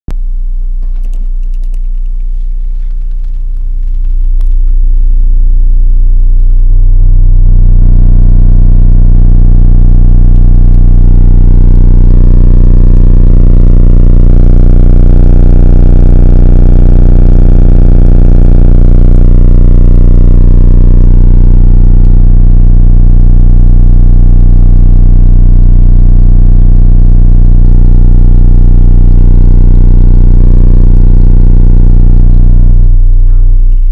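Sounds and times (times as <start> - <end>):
subwoofer playing deep bass: 0.1 - 33.9.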